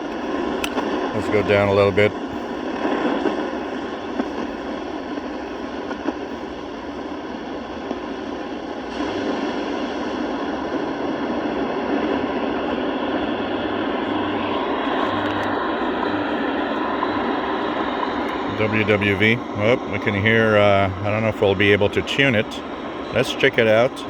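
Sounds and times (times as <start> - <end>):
radio static and hiss: 0.0 - 24.0.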